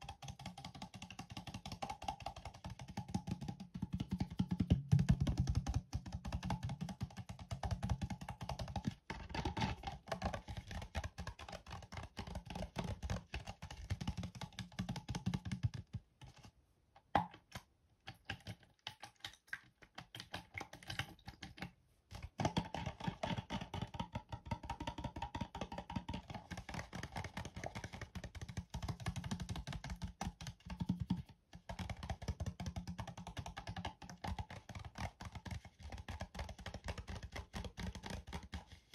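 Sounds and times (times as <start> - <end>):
fingernail tapping plastic cup: 0.0 - 38.9.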